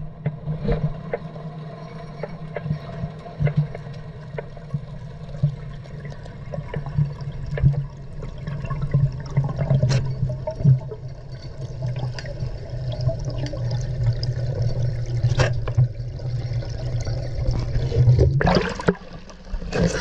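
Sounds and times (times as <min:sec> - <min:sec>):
faint clicks and crackles: 0:00.0 - 0:20.0
muffled underwater water rushing: 0:00.0 - 0:20.0.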